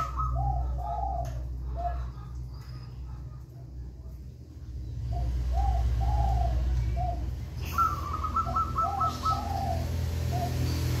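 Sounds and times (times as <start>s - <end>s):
dove cooing: 0.0s - 3.4s, 5.1s - 11.0s.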